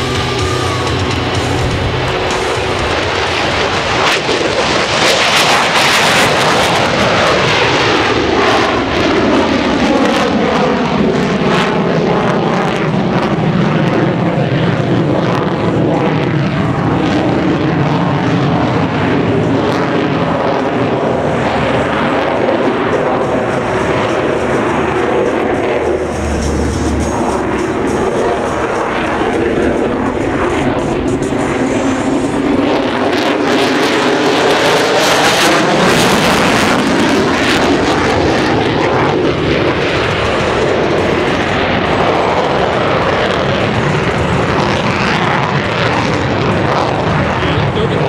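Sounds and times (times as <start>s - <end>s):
jet engine roaring: 0.0s - 48.0s.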